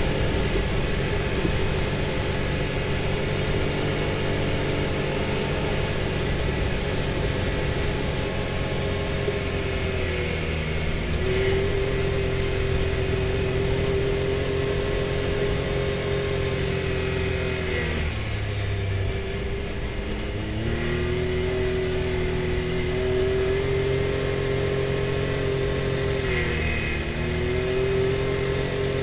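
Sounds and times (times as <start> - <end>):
turbocharged engine under load: 0.0 - 29.0.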